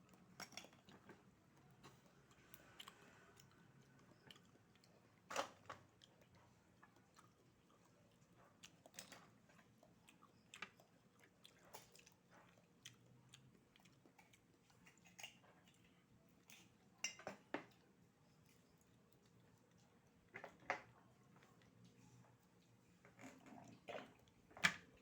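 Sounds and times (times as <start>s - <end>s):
faint chewing: 0.0s - 25.0s.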